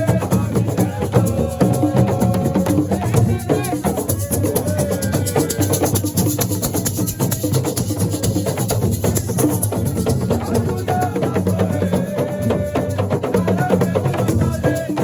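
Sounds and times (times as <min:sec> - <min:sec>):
hand drums and shaker rattles: 0:00.0 - 0:15.0.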